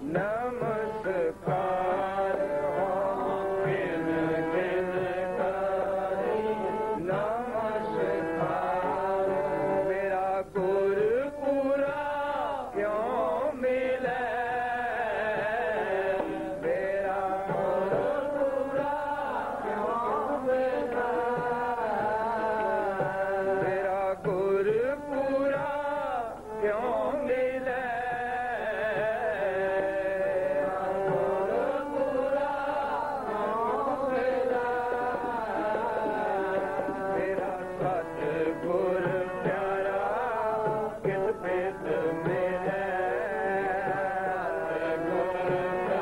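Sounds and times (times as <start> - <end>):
harmonium: 0.0 - 46.0
men singing hymn: 0.0 - 46.0.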